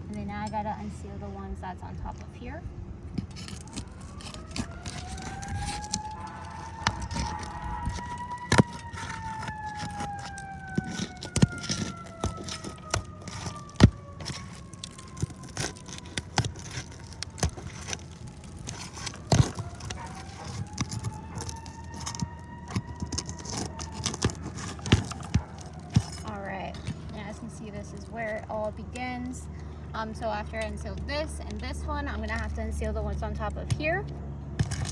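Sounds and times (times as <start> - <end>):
distant siren wailing: 0.0 - 34.9
roof shingles cracking: 3.2 - 32.8, 34.6 - 34.9.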